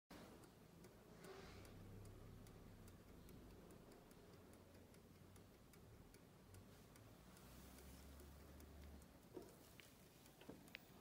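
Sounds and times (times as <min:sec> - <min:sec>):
pocket watch ticking: 0:00.2 - 0:11.0.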